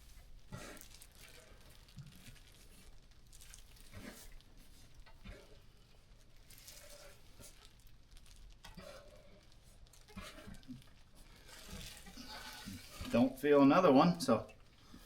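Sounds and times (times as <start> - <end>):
soft wet handling sounds: 0.0 - 15.0.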